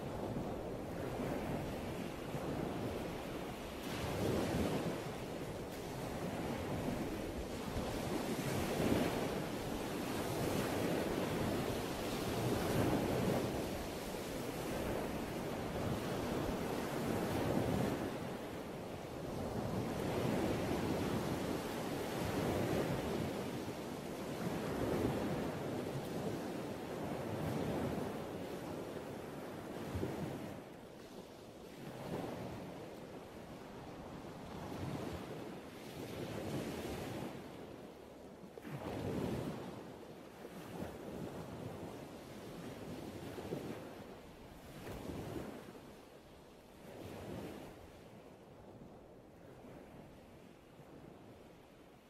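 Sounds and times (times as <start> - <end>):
ocean waves washing onto beach: 0.0 - 52.0.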